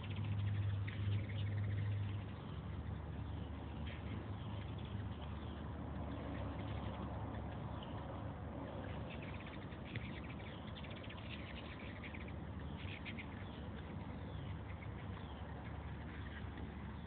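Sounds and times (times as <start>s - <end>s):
hummingbirds chittering: 0.0s - 17.0s.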